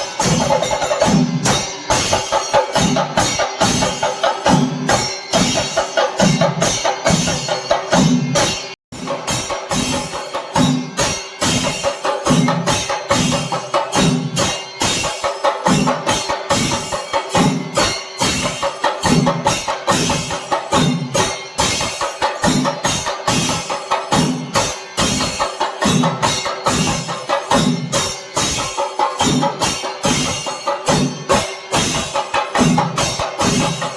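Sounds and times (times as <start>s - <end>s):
cymbals ringing: 0.0s - 33.9s
stick-beaten drums ensemble: 0.0s - 33.9s.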